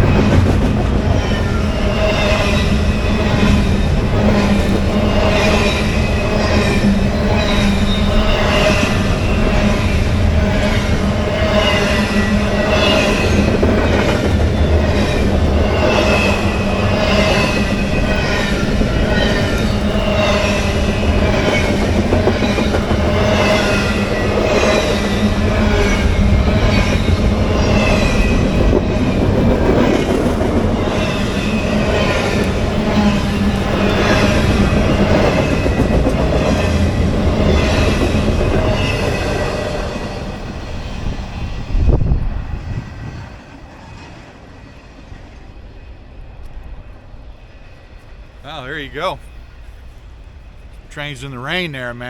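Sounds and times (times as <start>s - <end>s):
freight train rumble: 0.0s - 52.0s.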